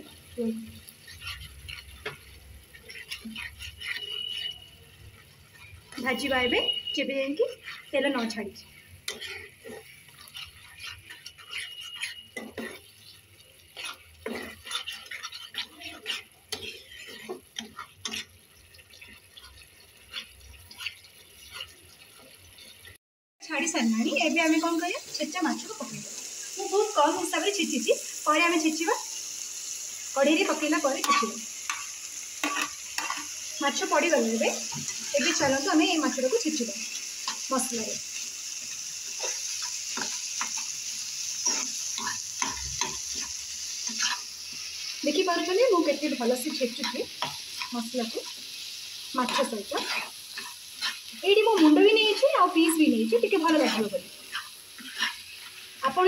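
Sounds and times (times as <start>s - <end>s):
spatula stirring and scraping: 0.0s - 23.0s, 30.4s - 56.0s
fish sizzling in a pan: 0.0s - 56.0s.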